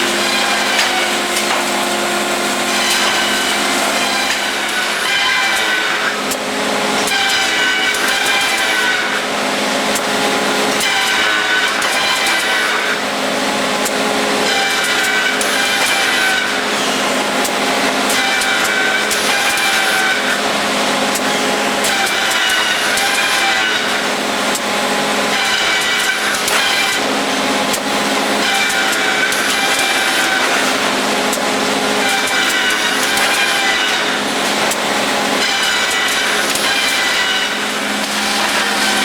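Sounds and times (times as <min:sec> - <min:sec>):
bandsaw cutting: 0:00.0 - 0:39.0.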